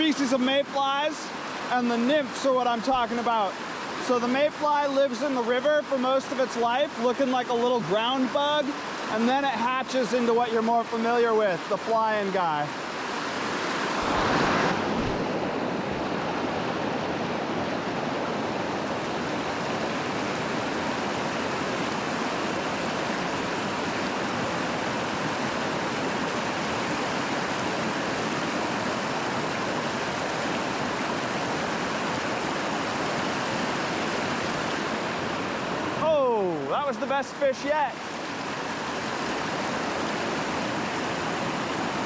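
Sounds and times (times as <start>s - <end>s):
creek and waterfall rushing: 0.0s - 42.0s.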